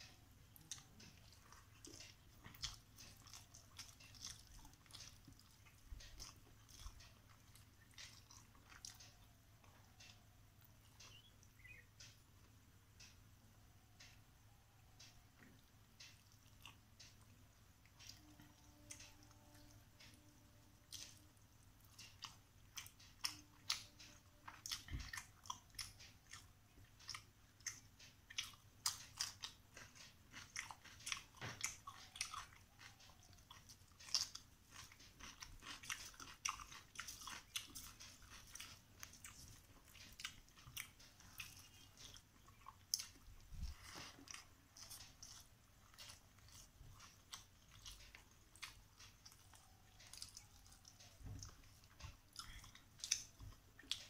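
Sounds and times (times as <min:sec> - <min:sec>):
chewing and lip smacking: 0:00.0 - 0:12.2, 0:15.0 - 0:54.0.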